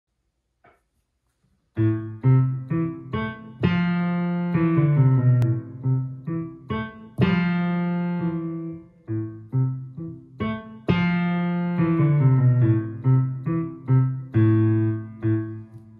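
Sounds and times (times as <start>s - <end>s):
slow synthesizer piano piece: 1.8s - 15.9s.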